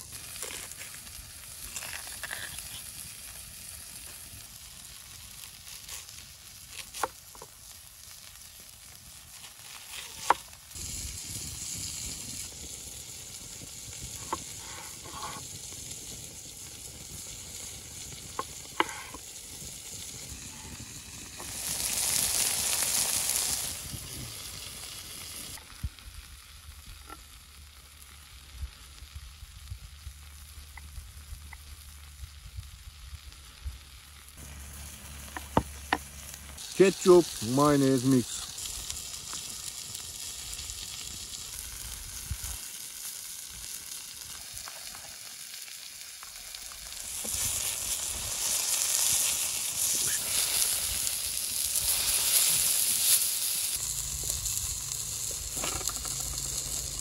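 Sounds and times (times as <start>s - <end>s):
burger patty sizzling: 0.0s - 57.0s.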